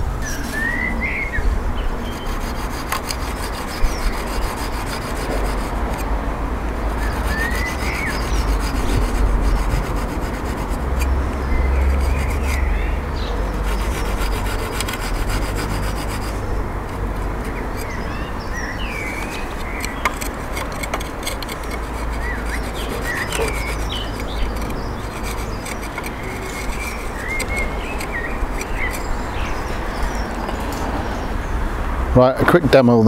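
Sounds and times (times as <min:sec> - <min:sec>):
hand saw rasping: 0:02.0 - 0:30.4.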